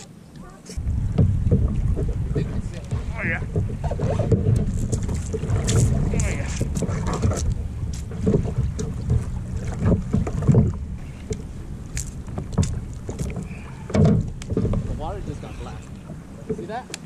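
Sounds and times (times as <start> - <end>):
wind on microphone: 0.0 - 16.8
clicks and knocks from boat: 0.0 - 17.0
water moving against kayak: 0.0 - 17.0.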